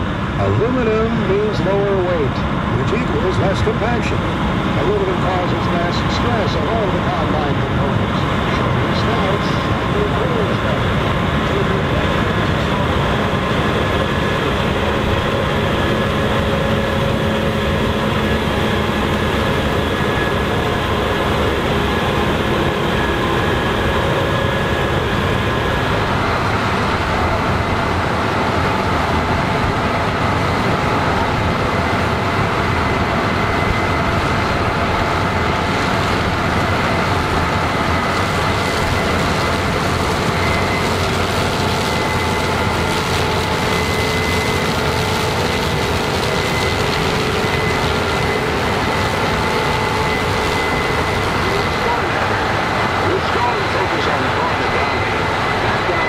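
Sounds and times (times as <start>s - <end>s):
combine harvester drone: 0.0s - 56.0s
machinery whines: 0.0s - 56.0s.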